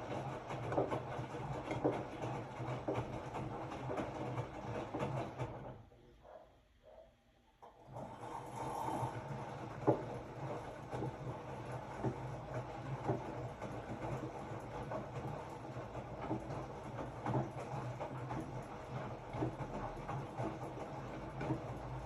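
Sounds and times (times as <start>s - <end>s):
washing machine humming: 0.0s - 22.0s.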